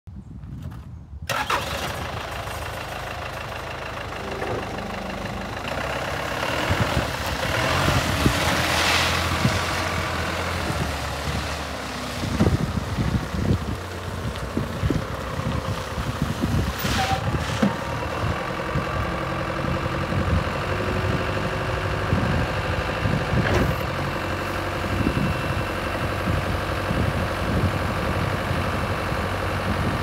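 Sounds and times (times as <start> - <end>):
forklift diesel engine running: 1.3 - 30.0.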